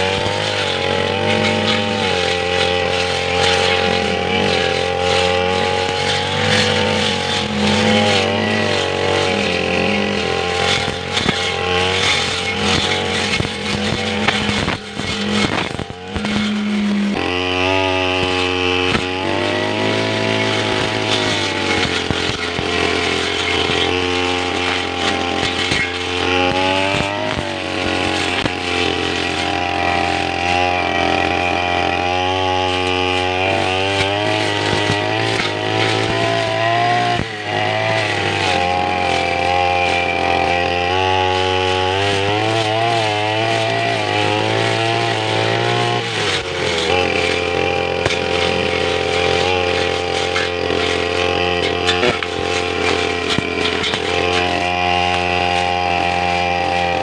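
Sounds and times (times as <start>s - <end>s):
brush cutter engine cutting grass: 0.0s - 57.0s.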